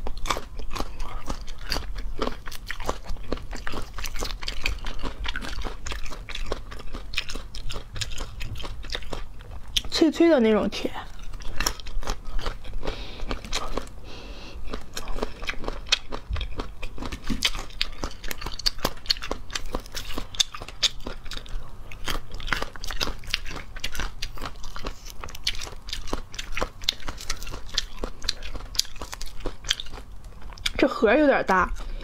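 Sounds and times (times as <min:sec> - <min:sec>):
crunching and chewing fruit: 0:00.0 - 0:32.0.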